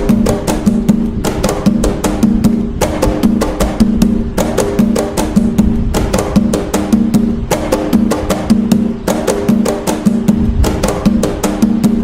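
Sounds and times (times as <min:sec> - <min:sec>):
hand drums playing rhythm: 0:00.0 - 0:12.0.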